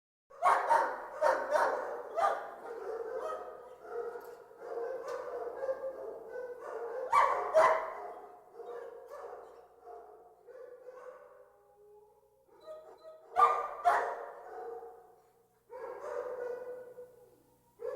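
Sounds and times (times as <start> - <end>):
many dogs barking: 0.3 - 11.5, 12.7 - 17.9.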